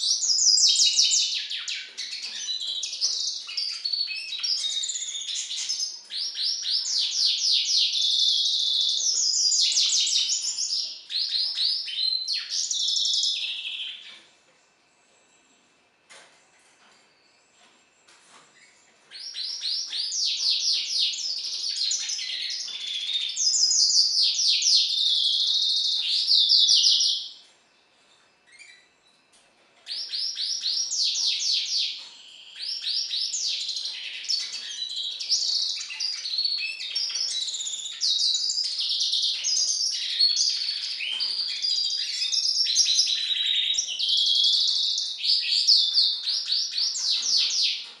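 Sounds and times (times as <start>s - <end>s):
bird twittering song: 0.0s - 14.3s, 16.8s - 48.0s.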